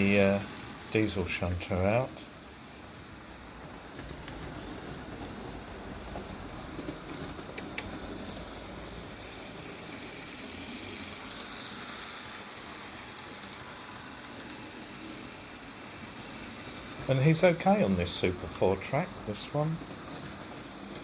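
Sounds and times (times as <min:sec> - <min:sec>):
model train motor whirring: 0:00.0 - 0:21.0
wheels rumbling on rails: 0:02.2 - 0:21.0.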